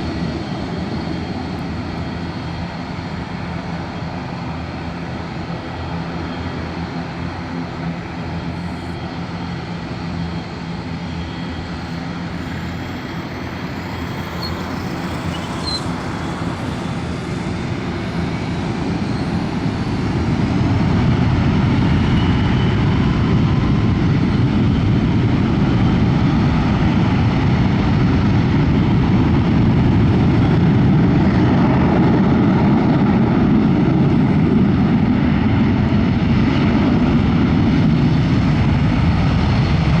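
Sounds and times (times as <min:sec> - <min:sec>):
jet engines running: 0:00.0 - 0:40.0.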